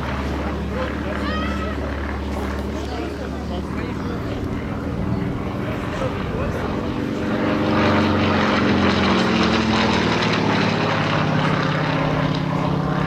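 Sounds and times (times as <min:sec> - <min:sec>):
propeller airplane flying past: 0:00.0 - 0:13.0.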